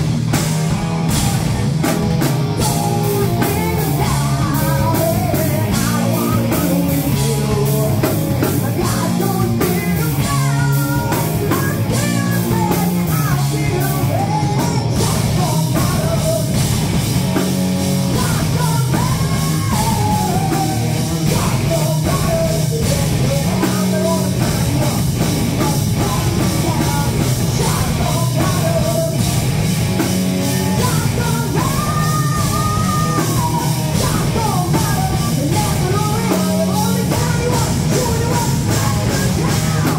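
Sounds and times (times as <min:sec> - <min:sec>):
live rock band playing: 0:00.0 - 0:39.9
woman singing: 0:02.6 - 0:16.6, 0:18.1 - 0:29.2, 0:30.4 - 0:39.9.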